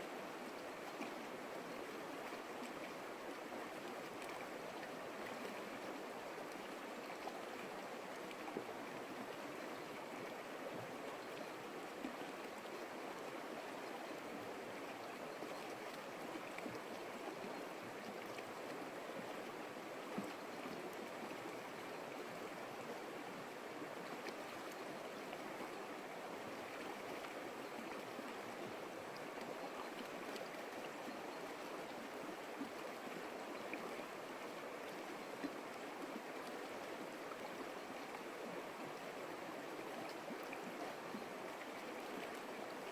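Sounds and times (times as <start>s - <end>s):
creek water flowing: 0.0s - 42.9s.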